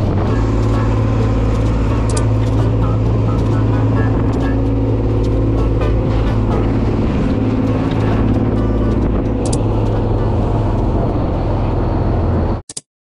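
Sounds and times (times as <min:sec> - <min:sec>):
boat engine droning: 0:00.0 - 0:12.6.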